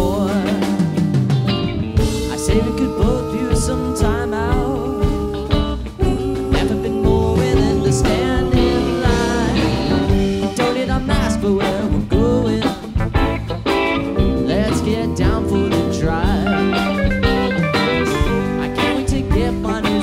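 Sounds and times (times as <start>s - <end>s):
drums: 0.0s - 20.0s
electric guitar: 0.0s - 20.0s
keyboards: 0.0s - 20.0s.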